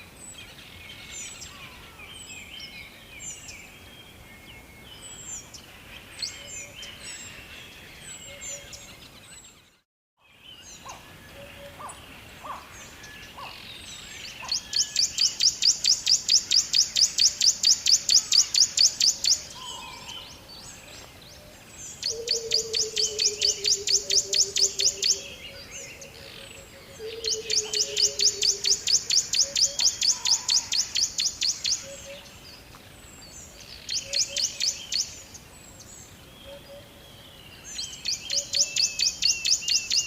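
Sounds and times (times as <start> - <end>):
songbirds chirping: 0.0 - 40.0.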